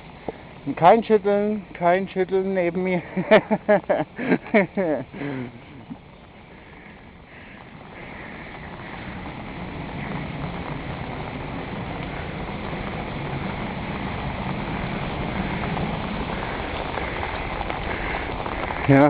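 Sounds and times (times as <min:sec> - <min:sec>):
heavy rain on pavement: 0:00.0 - 0:19.0.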